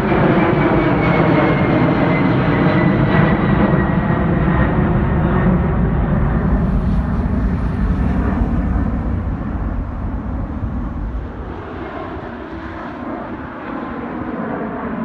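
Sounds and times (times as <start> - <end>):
faint jet engine whine: 0.0 - 15.0
jet airliner engine rumble: 0.0 - 15.0.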